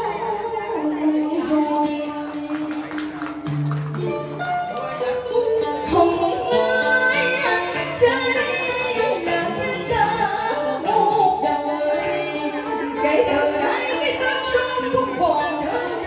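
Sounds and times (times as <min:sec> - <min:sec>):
woman singing: 0:00.0 - 0:03.4, 0:05.6 - 0:16.0
instrumental backing music: 0:00.0 - 0:16.0.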